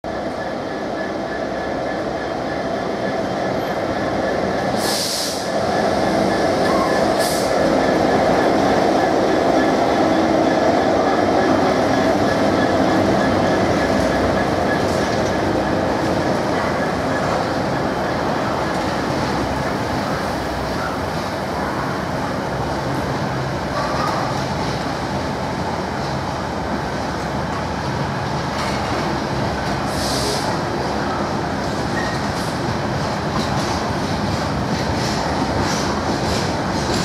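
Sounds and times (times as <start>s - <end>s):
diesel locomotive engine: 0.0s - 37.0s.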